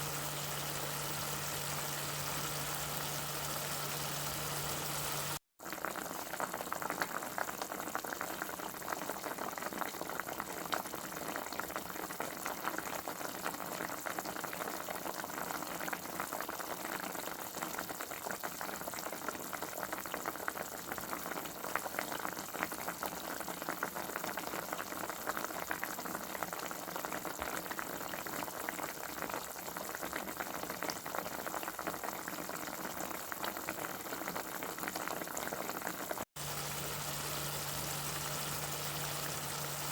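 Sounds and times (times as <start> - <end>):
liquid boiling in a pot: 0.0 - 39.9.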